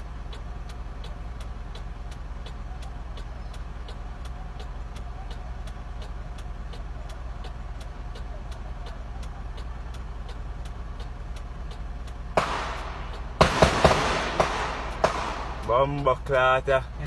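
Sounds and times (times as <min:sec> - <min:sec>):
even ticking: 0:00.0 - 0:17.0
vehicle engine idling: 0:00.0 - 0:17.0.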